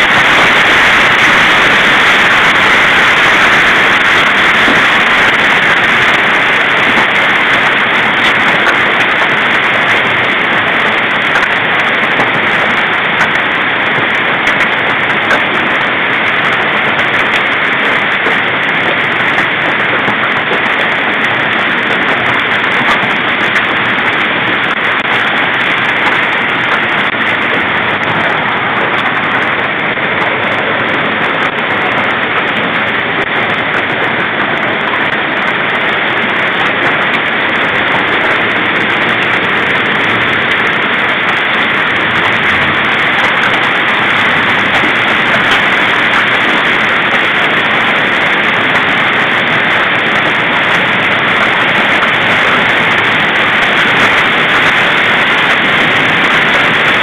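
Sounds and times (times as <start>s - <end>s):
heavy hail pelting down: 0.0s - 57.0s.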